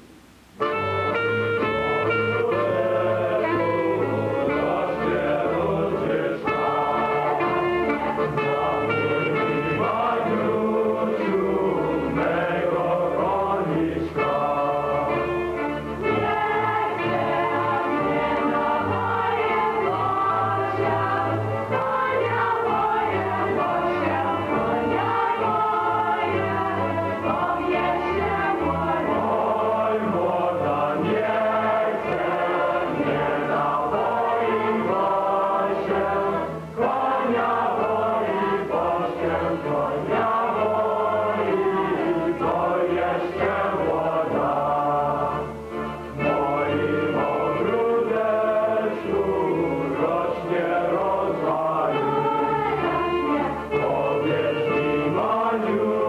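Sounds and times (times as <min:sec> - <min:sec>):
choir singing: 0:00.6 - 0:56.0.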